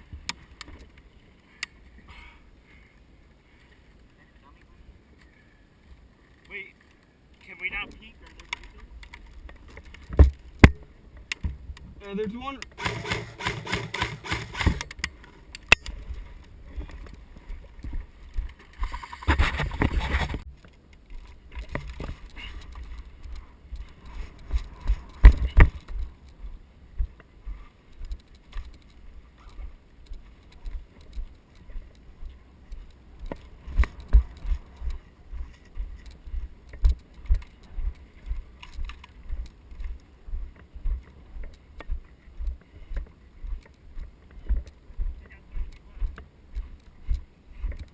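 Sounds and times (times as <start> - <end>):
footsteps walking: 7.8 - 47.9.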